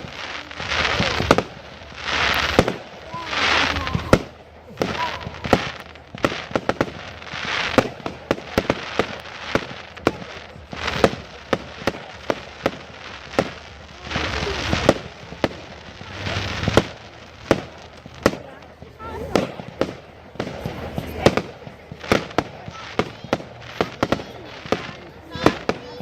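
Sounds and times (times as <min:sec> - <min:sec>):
firework bangs: 0:00.0 - 0:26.0
fireworks crackling: 0:00.0 - 0:26.0.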